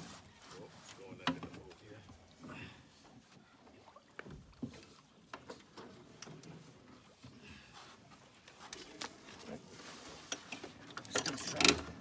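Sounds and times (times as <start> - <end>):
light knocks and clicks in boat: 0.8 - 12.0.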